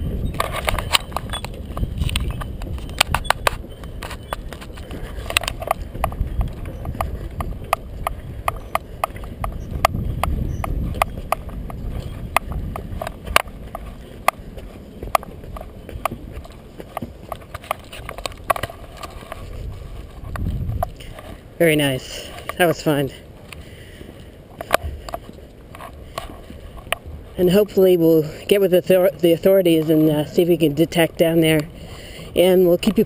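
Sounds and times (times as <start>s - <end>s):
footsteps on wooden deck: 0.0s - 33.0s.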